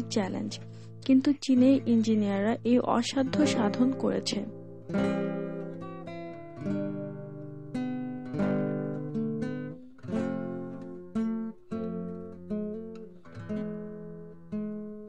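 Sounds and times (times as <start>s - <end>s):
acoustic guitar strummed chords: 0.0s - 15.0s.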